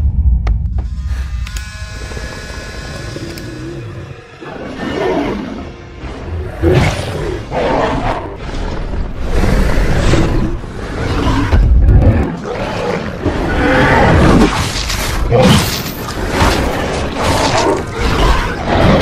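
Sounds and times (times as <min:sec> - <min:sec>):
film score music: 0:00.0 - 0:19.0
dinosaur roaring and growling: 0:02.0 - 0:19.0.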